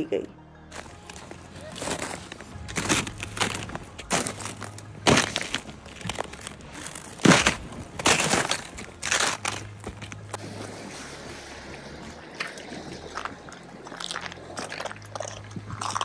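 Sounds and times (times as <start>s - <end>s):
boots crunching on snow and ice: 0.7s - 16.0s.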